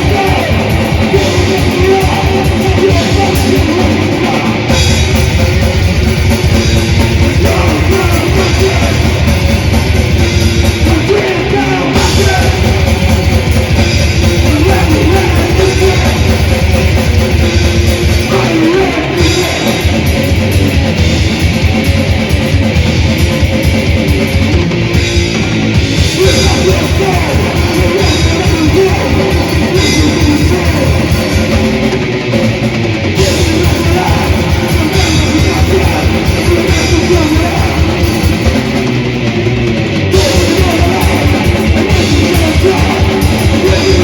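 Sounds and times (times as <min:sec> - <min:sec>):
distorted electric guitars: 0:00.0 - 0:44.0
fast drumming: 0:00.0 - 0:44.0.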